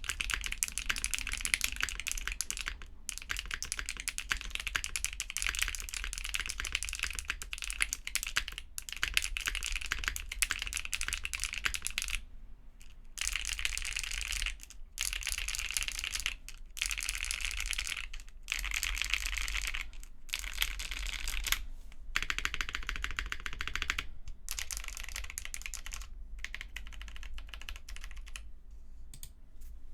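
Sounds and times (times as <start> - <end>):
mechanical keyboard typing: 0.0 - 12.2, 12.8 - 21.6, 22.2 - 28.5.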